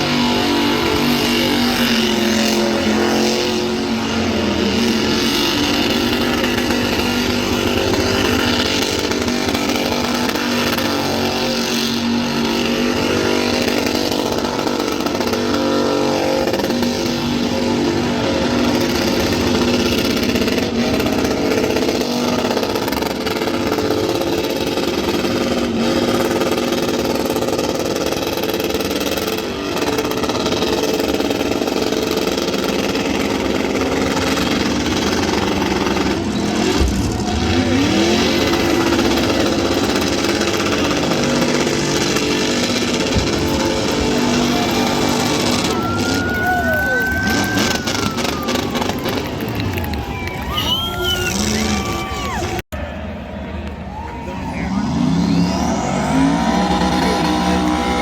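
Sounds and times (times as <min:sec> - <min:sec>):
car engine revving high: 0:00.0 - 0:52.7, 0:54.4 - 0:58.0.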